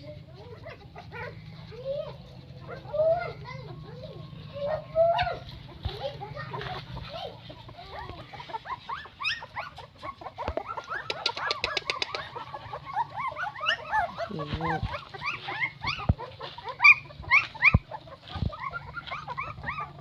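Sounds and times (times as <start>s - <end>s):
puppies squealing and whining: 0.0s - 20.0s.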